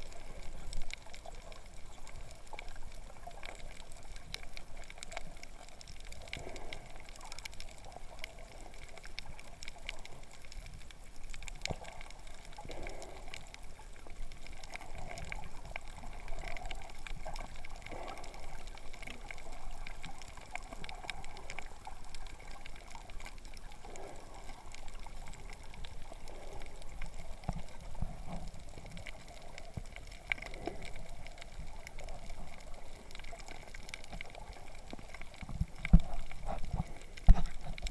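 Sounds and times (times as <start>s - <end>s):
faint underwater clicks: 0.0s - 37.9s
muffled water swishes: 0.0s - 37.9s
underwater hiss: 4.7s - 10.3s, 11.4s - 37.9s.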